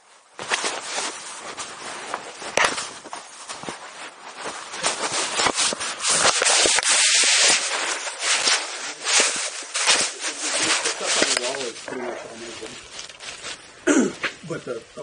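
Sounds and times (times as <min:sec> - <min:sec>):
rustling against microphone: 0:00.0 - 0:14.8
loud steady hiss: 0:00.0 - 0:15.0
crackling clicks: 0:00.4 - 0:13.6.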